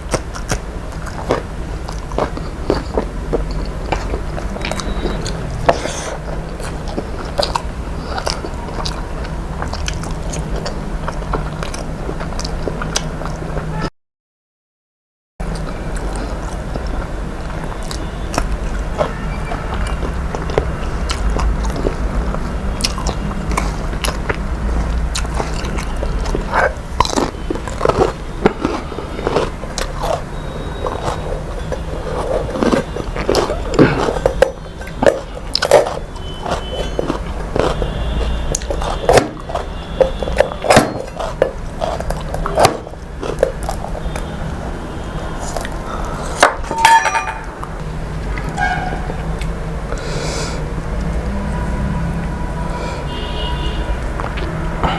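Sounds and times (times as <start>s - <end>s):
person chewing and crunching food: 0.0s - 13.8s, 15.4s - 54.9s.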